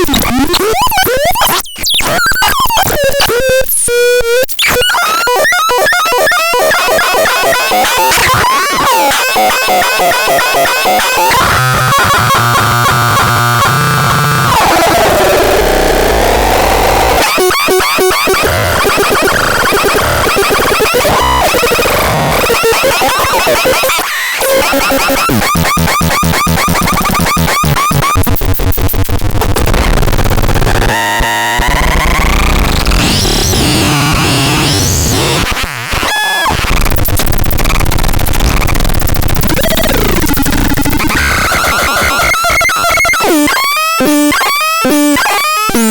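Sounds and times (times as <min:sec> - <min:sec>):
harsh electronic chirps and buzzing: 0:00.0 - 0:45.9
stuttering synthesizer tones: 0:04.6 - 0:35.5, 0:36.5 - 0:45.9.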